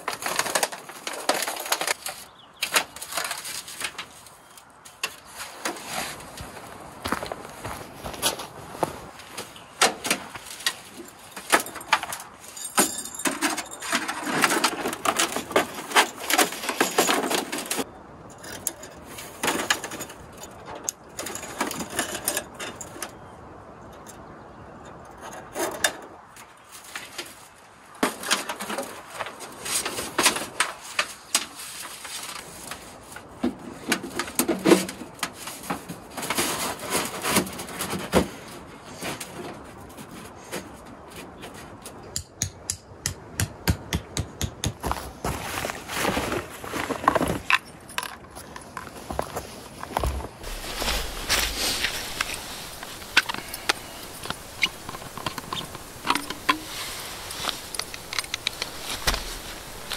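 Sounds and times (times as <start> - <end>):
camp gear knocks and clicks: 0.0 - 23.2, 28.0 - 59.9.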